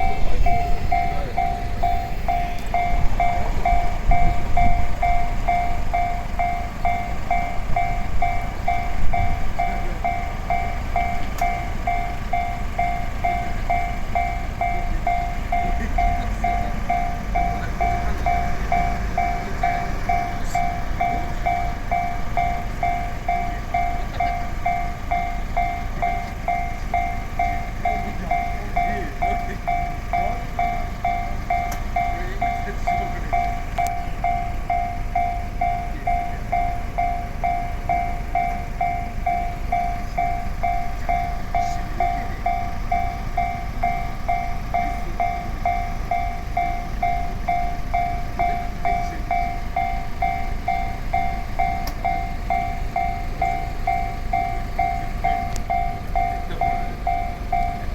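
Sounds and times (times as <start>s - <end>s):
level crossing alarm bell: 0.0s - 57.9s.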